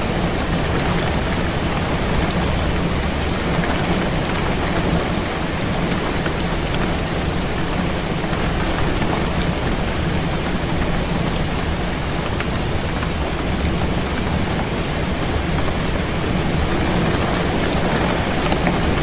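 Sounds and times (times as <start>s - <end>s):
heavy rain on a window: 0.0s - 19.0s.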